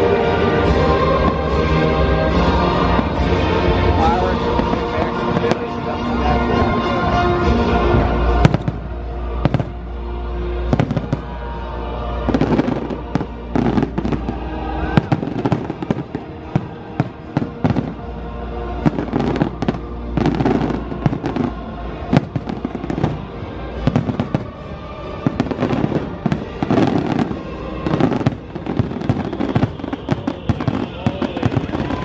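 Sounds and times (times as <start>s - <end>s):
fireworks bursting with sharp bangs: 0.0s - 10.0s, 10.6s - 32.0s
music soundtrack: 0.0s - 32.0s.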